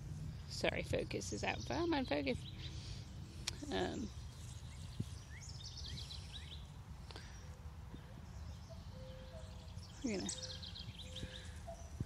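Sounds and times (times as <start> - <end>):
low outdoor rumble: 0.0 - 12.0
songbird chirping: 0.0 - 12.0.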